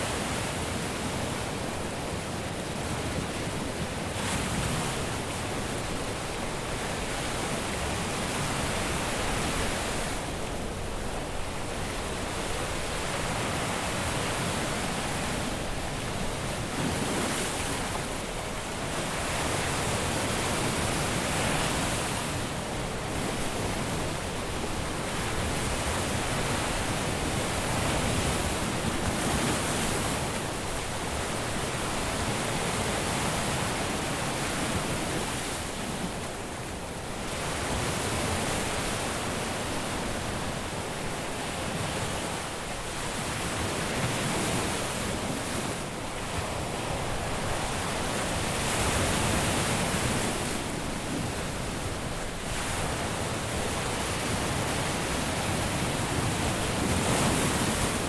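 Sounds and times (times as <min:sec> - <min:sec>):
surf breaking on a beach: 0:00.0 - 0:58.0.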